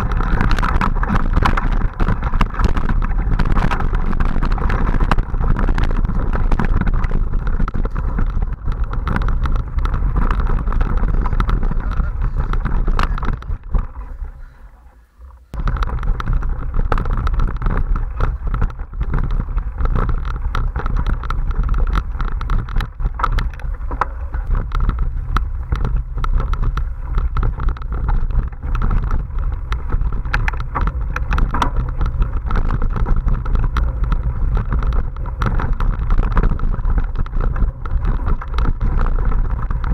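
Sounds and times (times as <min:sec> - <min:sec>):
bike clicks and rattles: 0:00.0 - 0:14.6, 0:15.2 - 0:39.9
tyre rumble: 0:00.0 - 0:39.9
wind on microphone: 0:00.0 - 0:39.9.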